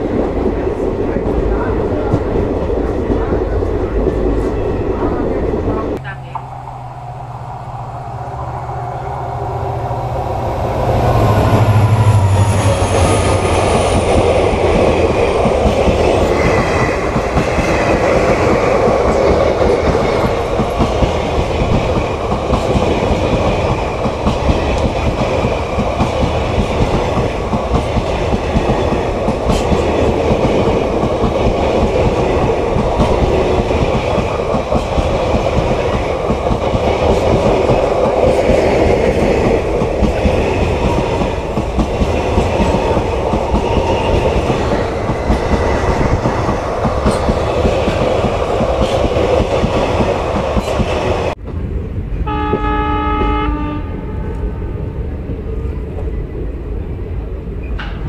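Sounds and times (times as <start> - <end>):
locomotive engine drone: 0.0 - 53.0
train coaches rumbling and clacking: 0.0 - 58.0.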